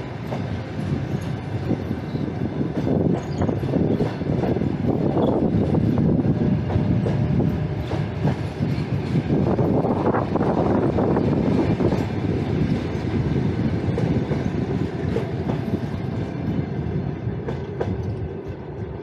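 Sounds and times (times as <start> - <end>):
train rumbling along rails: 0.0 - 19.0.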